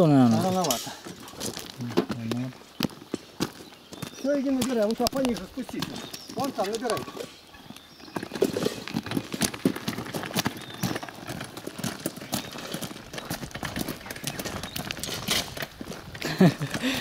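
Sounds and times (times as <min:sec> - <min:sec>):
footsteps on gravel: 0:00.0 - 0:17.0
wheelbarrow wheel crunching gravel: 0:00.0 - 0:17.0.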